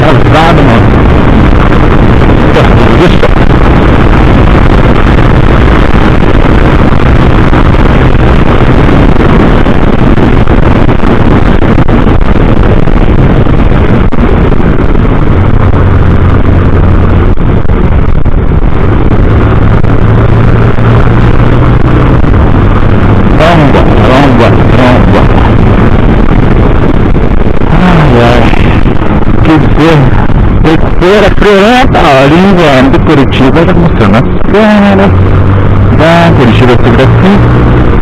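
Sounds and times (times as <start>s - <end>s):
motorcycle engine running: 0.0s - 38.0s
wind noise on microphone: 0.0s - 38.0s.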